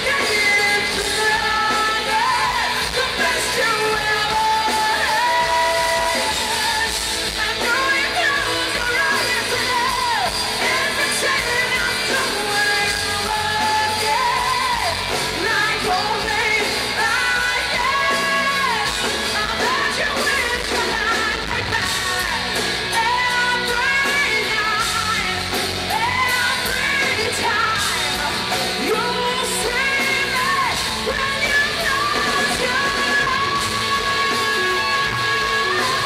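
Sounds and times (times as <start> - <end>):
live hard rock band: 0.0 - 36.0
person singing and yelling: 0.0 - 36.0.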